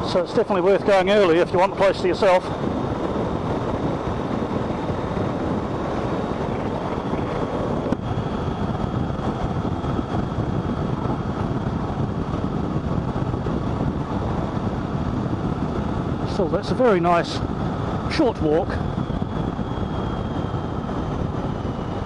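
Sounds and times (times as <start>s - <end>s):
wind and road noise rushing: 0.0s - 22.0s.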